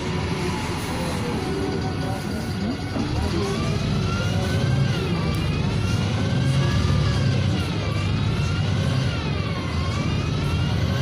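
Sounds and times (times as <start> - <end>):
bus engine rumble: 0.0 - 11.0
drivetrain whine: 0.0 - 11.0.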